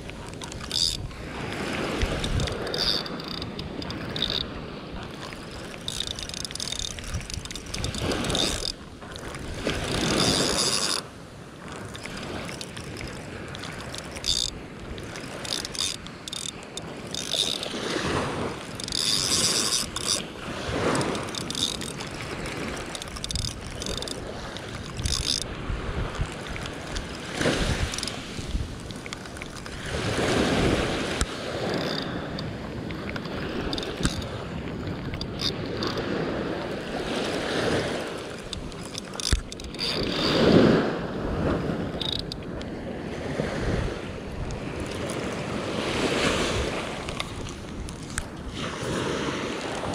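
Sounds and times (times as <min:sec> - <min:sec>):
mechanical clicking: 0:00.0 - 0:01.2, 0:02.0 - 0:29.9, 0:30.6 - 0:36.2, 0:37.6 - 0:40.5, 0:41.8 - 0:42.6, 0:44.4 - 0:45.4, 0:46.6 - 0:48.5
wind on microphone: 0:00.0 - 0:49.9.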